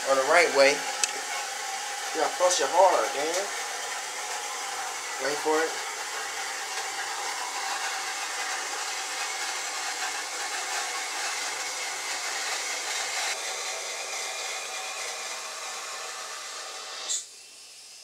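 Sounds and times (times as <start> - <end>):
toilet tank refilling hiss: 0.0 - 17.3.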